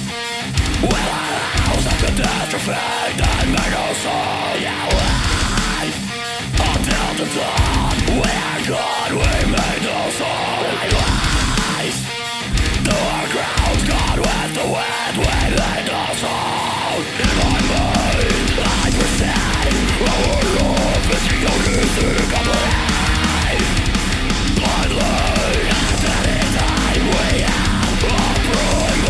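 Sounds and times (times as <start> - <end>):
heavy rock instrumental: 0.0 - 29.0.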